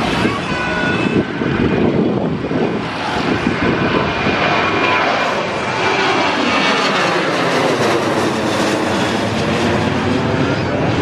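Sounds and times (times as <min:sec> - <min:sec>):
jet airliner passing: 0:00.0 - 0:11.0.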